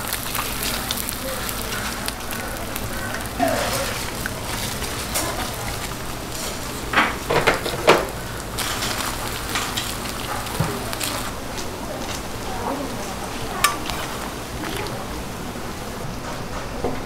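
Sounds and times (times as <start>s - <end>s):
meat sizzling on a griddle: 0.0s - 16.0s.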